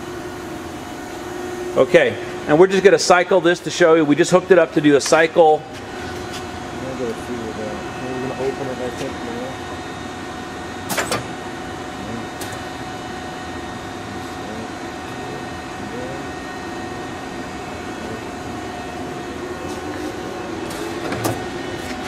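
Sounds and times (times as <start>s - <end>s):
electric machinery hum: 0.0s - 22.0s.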